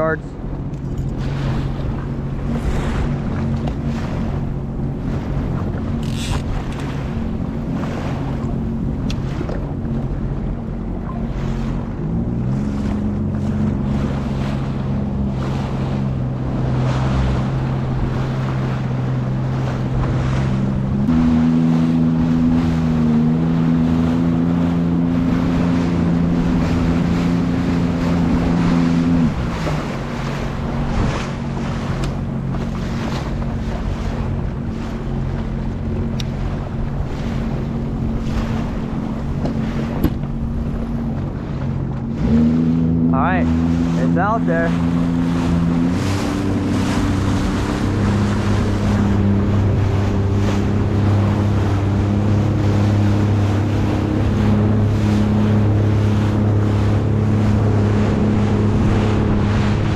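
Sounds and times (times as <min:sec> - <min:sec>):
personal watercraft engine running: 0:00.0 - 0:59.9
water noise: 0:00.0 - 0:59.9
wind on microphone: 0:00.0 - 0:59.9.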